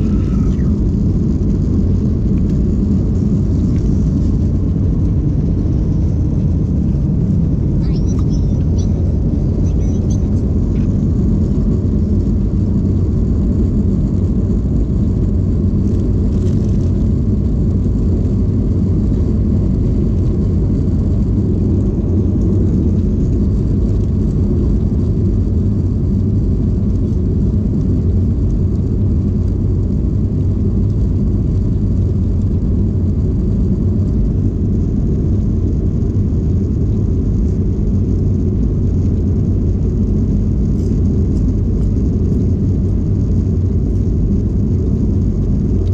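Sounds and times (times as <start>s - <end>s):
airliner cabin engine rumble: 0.0s - 45.9s.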